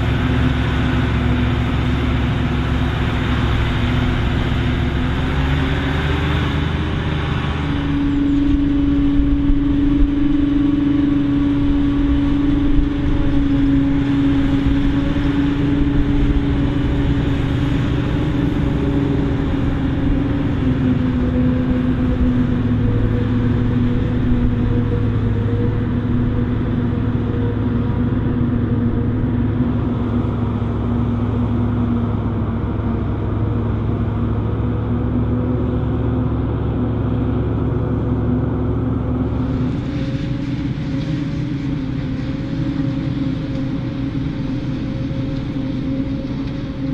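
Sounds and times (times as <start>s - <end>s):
forage harvester engine drone: 0.0s - 46.9s.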